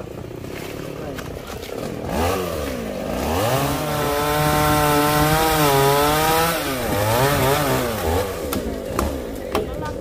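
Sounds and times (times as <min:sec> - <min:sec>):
chainsaw cutting wood: 0:01.8 - 0:10.0.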